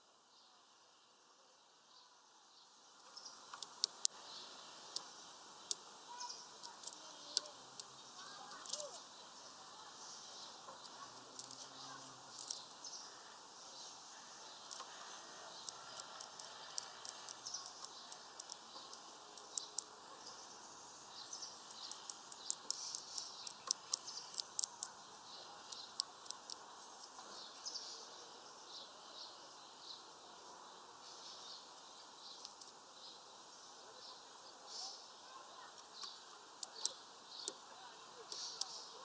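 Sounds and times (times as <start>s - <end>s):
faint background noise: 0.0s - 39.0s
small songbirds chirping: 0.0s - 39.0s.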